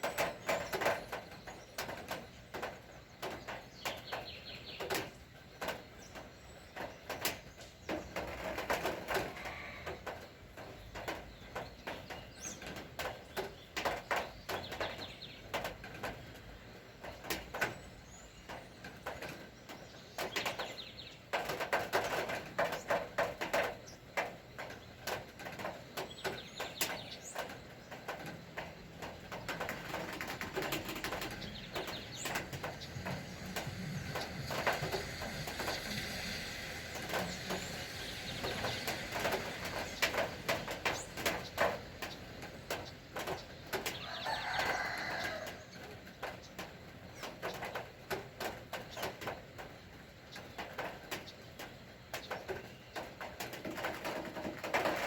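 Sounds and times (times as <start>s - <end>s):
birds chattering: 0.0s - 54.2s
rain dripping: 0.0s - 55.0s.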